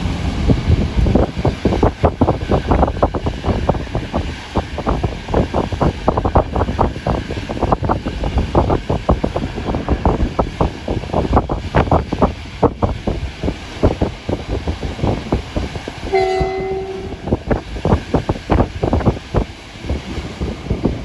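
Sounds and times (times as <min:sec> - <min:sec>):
train rumbling and knocking: 0:00.0 - 0:21.0
wind buffeting microphone: 0:00.0 - 0:21.0.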